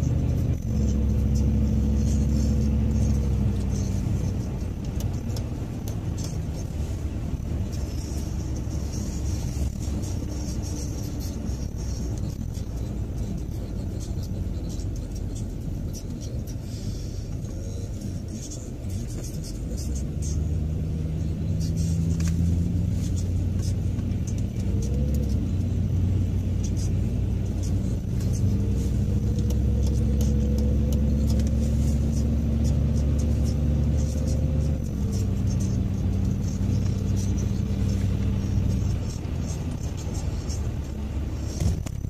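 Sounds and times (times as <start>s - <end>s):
car engine hum: 0.0s - 42.0s
road noise inside car: 0.0s - 42.0s.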